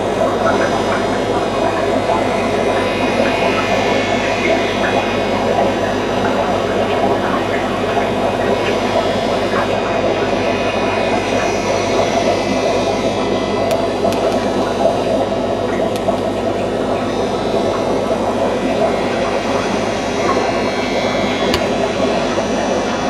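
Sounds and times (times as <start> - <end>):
aquarium equipment humming: 0.0 - 23.0
constant rushing noise: 0.0 - 23.0.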